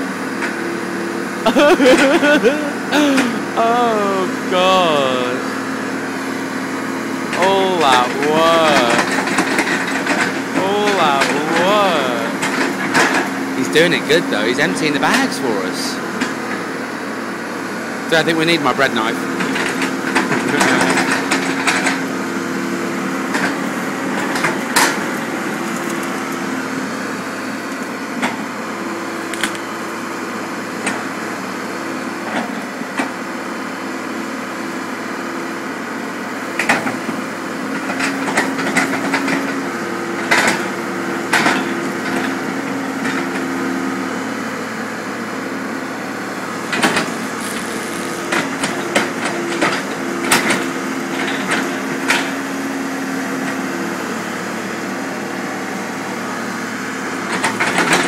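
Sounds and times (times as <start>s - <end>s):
excavator engine running: 0.2s - 29.9s, 37.2s - 55.5s.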